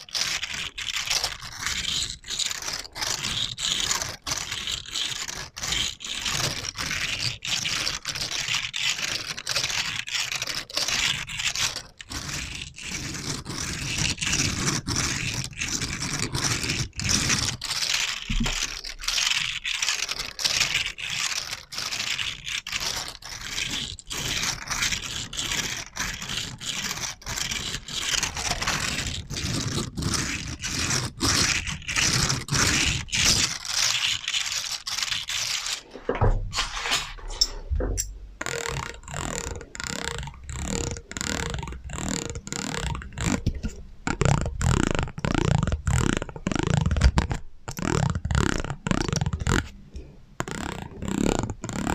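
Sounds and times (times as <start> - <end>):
rapid scraping on a surface: 0.0 - 37.8, 38.4 - 51.9.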